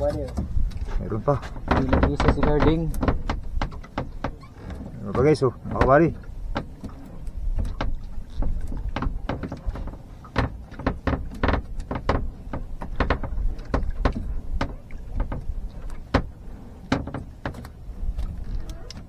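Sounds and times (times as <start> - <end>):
knocks taps and clatter: 0.0 - 19.0.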